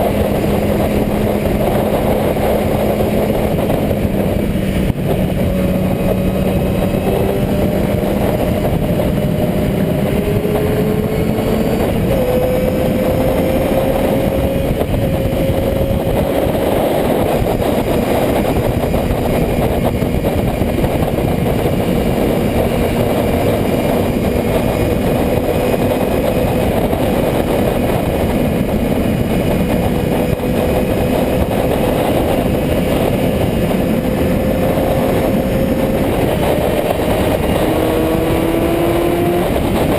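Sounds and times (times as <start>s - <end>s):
dense rushing noise: 0.0s - 39.9s
motorcycle engine running: 0.0s - 39.9s.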